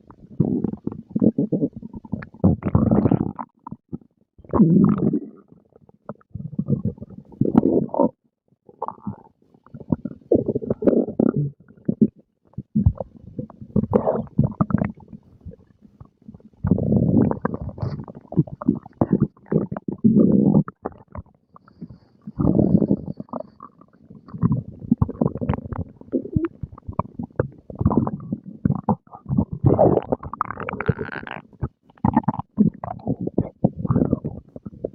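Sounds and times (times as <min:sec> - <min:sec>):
stomach growling and gurgling: 0:00.0 - 0:34.9.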